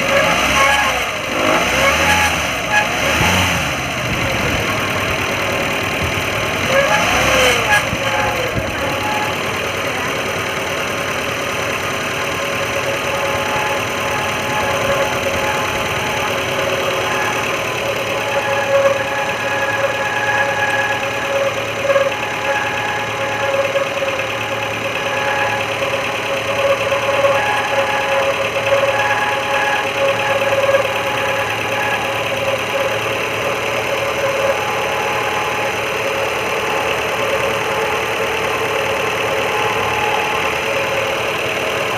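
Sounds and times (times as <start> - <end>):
car engine idling: 0.0 - 41.9
wavering bearing whine: 0.0 - 41.9.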